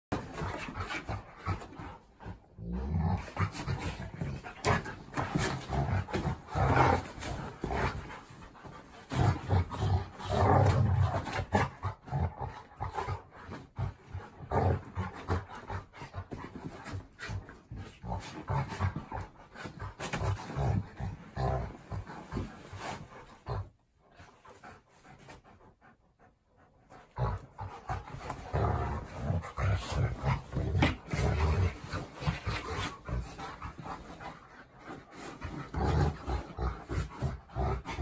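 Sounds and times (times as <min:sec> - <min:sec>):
dogs growling: 0:00.1 - 0:38.0.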